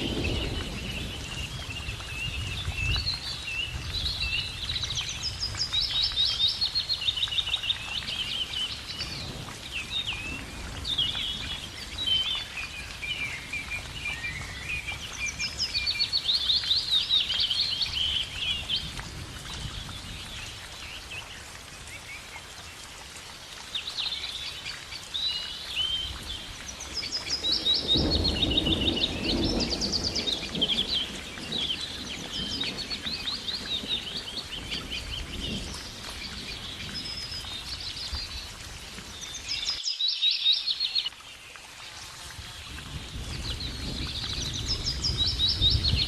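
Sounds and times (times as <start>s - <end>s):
songbirds chirping and trilling: 0.0s - 46.0s.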